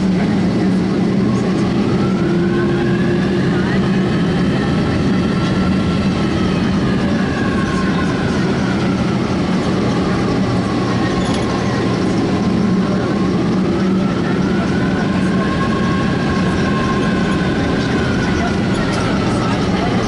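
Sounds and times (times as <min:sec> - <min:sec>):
jet engines humming in cabin: 0:00.0 - 0:20.0.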